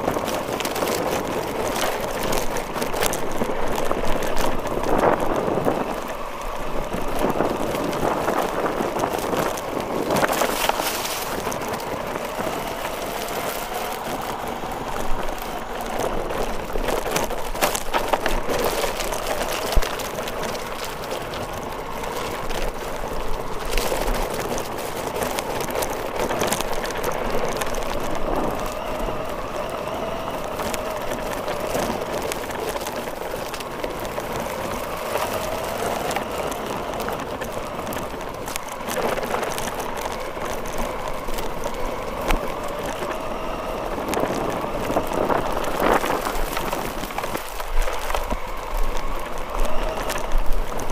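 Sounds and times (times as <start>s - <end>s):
toy car motor and tyre rumble: 0.0s - 50.9s.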